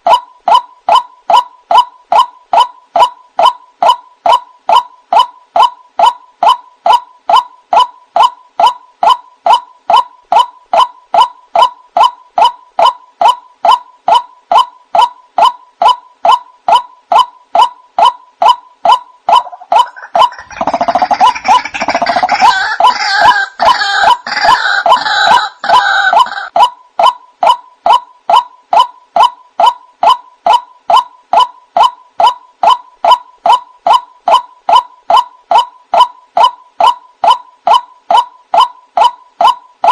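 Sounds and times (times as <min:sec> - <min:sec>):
harsh bird calling: 0:00.0 - 0:39.9
waterhen calling: 0:00.0 - 0:39.9.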